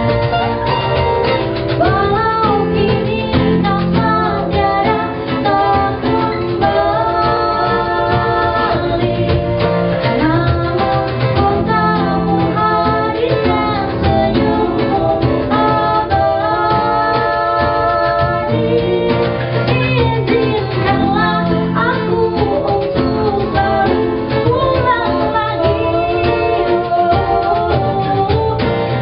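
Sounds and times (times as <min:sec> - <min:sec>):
acoustic pop band playing: 0:00.0 - 0:29.0
man and woman singing together: 0:01.8 - 0:29.0.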